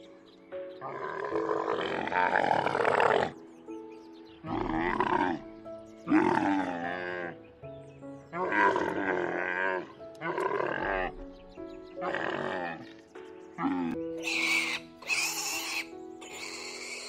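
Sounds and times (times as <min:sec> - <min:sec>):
calm background music: 0:00.0 - 0:17.0.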